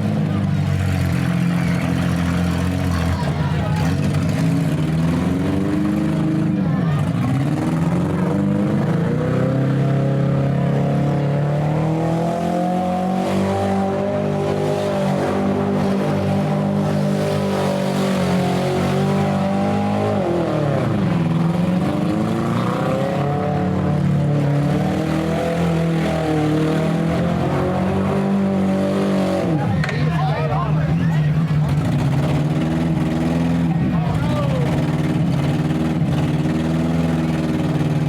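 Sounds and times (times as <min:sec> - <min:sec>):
car engines revving hard: 0:00.0 - 0:38.0.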